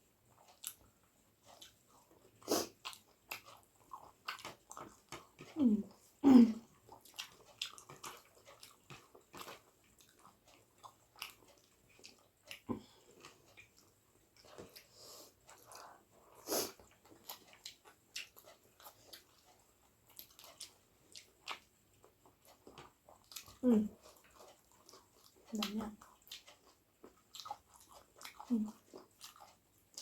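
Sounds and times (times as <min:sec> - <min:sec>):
person chewing food: 0:00.0 - 0:30.0
wet eating clicks and smacks: 0:00.3 - 0:30.0.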